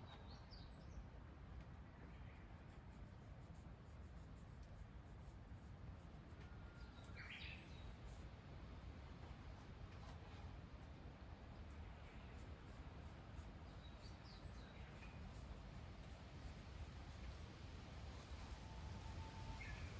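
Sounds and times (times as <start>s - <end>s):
low background noise: 0.0s - 19.9s.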